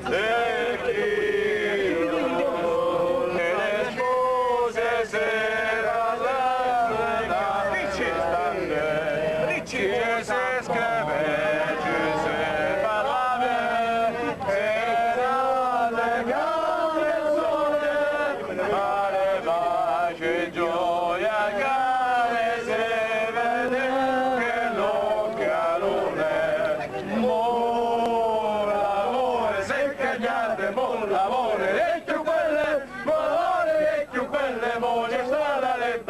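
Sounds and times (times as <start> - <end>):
men singing together: 0.0 - 36.0.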